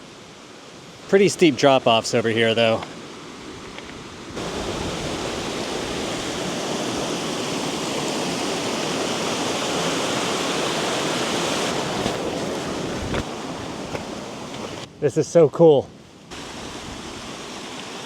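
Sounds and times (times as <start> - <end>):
waterfall roaring: 0.0 - 14.9, 16.3 - 18.0.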